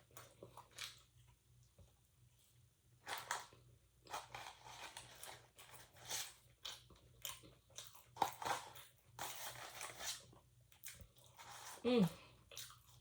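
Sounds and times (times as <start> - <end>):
person chewing crunchy food: 0.0 - 1.4, 3.0 - 13.0.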